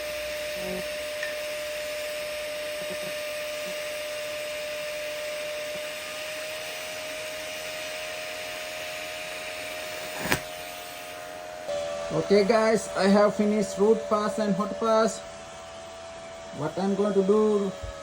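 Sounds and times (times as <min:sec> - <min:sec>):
arc welding hiss: 0:00.0 - 0:18.0.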